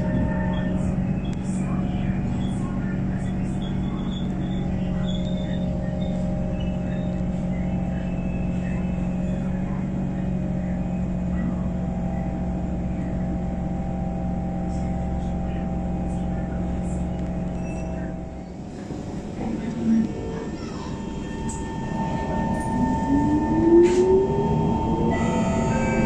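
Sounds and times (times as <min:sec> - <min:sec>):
faint voices: 0:00.0 - 0:26.0
train car electrical hum: 0:00.0 - 0:26.0.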